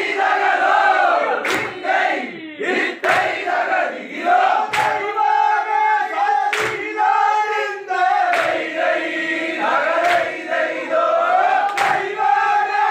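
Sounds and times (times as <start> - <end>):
men singing in unison: 0.0 - 12.9.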